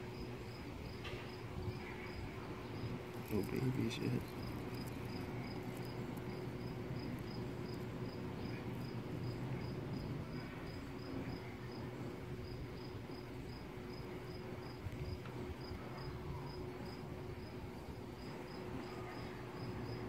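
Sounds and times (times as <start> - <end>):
insect chirping: 0.0 - 20.0
low steady hum: 0.0 - 20.0.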